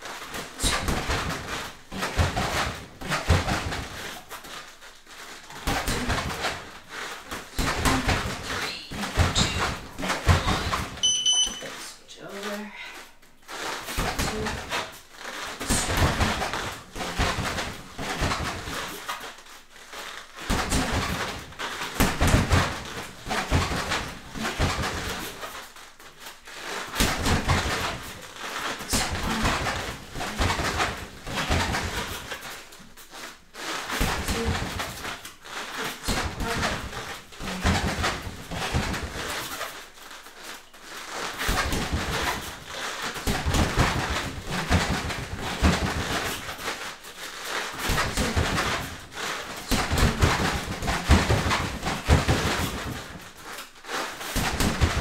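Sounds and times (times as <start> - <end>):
bare feet thumping on foam mats: 0.0 - 11.8, 13.2 - 55.0.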